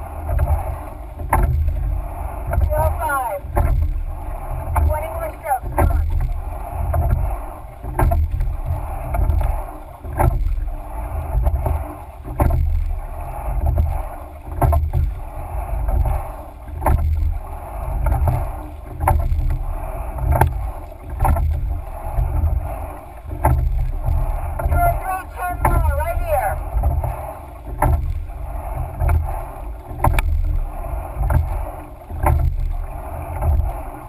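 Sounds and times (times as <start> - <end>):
low steady rumble: 0.0 - 34.0
oars clunking in oarlocks: 0.0 - 34.0
water rushing along hull: 0.0 - 34.0.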